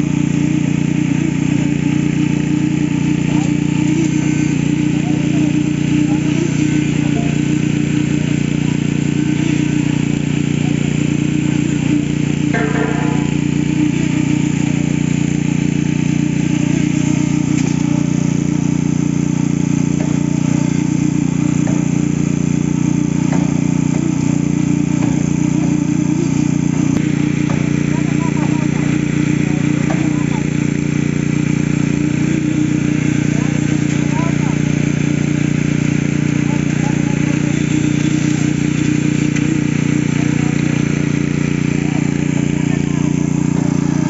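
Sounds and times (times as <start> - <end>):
heavy diesel engine drone: 0.0 - 44.0.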